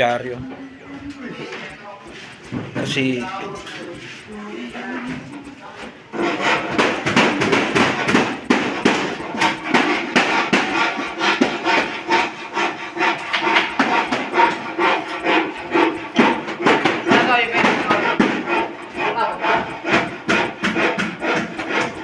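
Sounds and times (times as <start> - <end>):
rhythmic scraping and knocking: 0.0 - 22.0.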